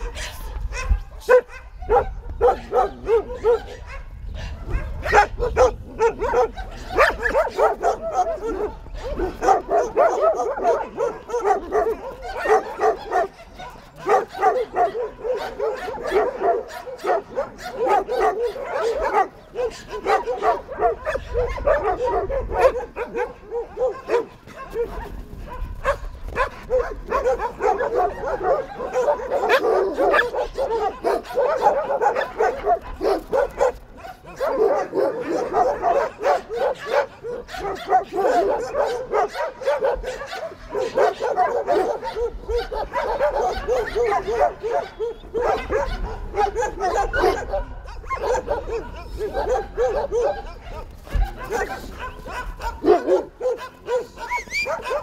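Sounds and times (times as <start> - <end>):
dogs barking and yapping: 0.0 - 55.0.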